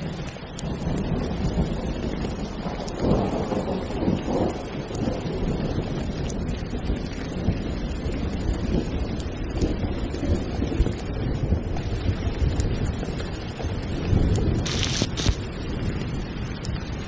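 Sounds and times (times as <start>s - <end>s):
heavy rain: 0.0s - 17.0s
low thunder rumble: 0.0s - 17.0s.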